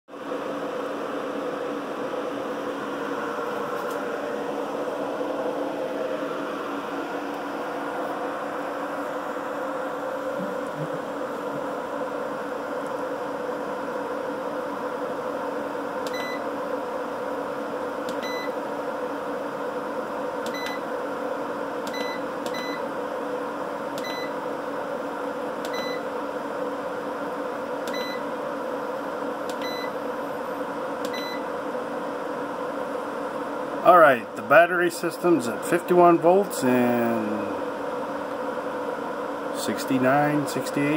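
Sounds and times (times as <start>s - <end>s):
electrical hum of inverter: 0.1s - 40.9s.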